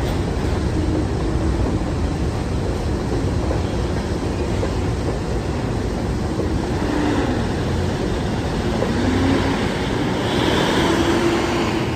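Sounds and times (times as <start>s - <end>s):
steel wheels rumbling on rails: 0.0s - 11.9s.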